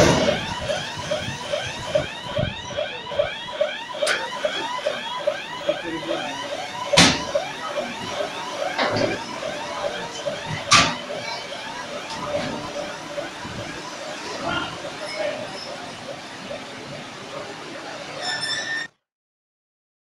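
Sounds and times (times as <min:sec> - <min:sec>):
reversing alarm chirping: 0:00.0 - 0:18.9.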